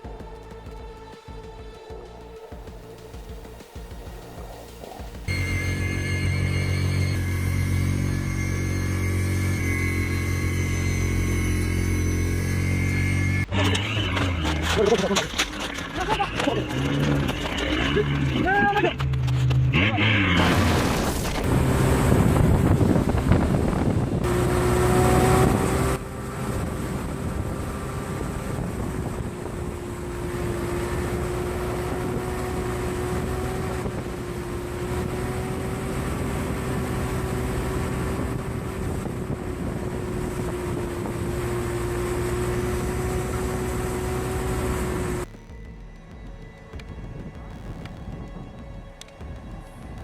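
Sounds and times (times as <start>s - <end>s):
engine droning: 0.0s - 50.0s.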